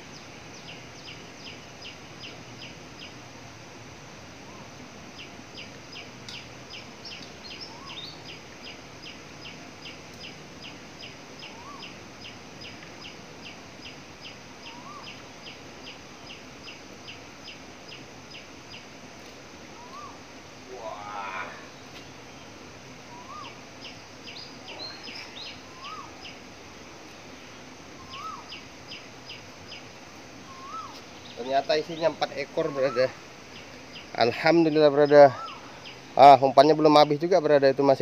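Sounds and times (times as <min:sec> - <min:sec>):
bird chirping: 0:00.0 - 0:03.2, 0:04.5 - 0:19.0, 0:19.7 - 0:20.3, 0:21.0 - 0:38.0
outdoor background hiss: 0:00.0 - 0:38.0.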